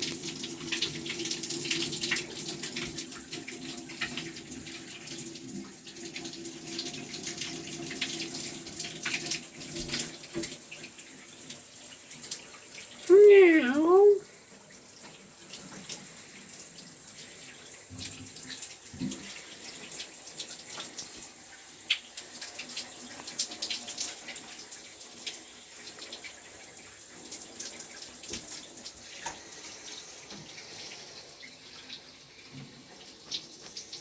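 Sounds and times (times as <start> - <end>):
water running from a tap: 0.0 - 13.0, 14.4 - 34.0.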